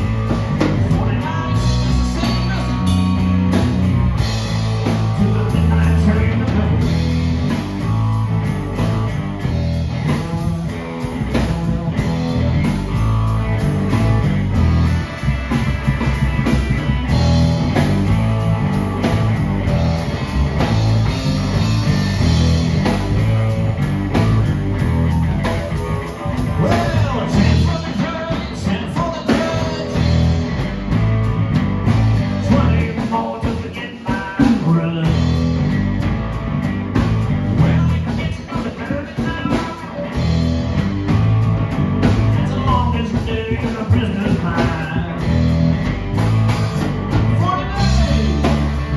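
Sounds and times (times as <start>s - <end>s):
bass guitar: 0.0s - 48.9s
drum kit beat: 0.0s - 48.9s
electric guitar: 0.0s - 48.9s.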